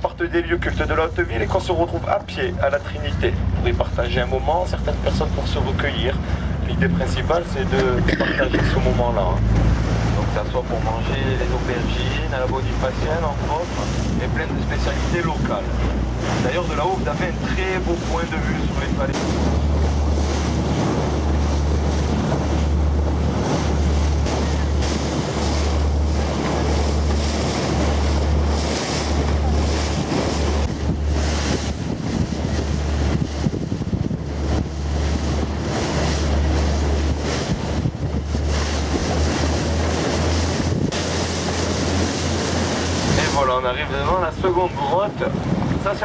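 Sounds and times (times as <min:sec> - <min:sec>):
sea water rushing: 0:00.0 - 0:46.0
wind buffeting microphone: 0:00.0 - 0:46.0.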